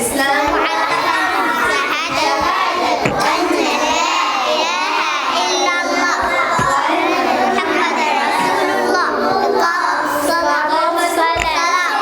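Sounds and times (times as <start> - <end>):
young children's voices: 0.0 - 12.0.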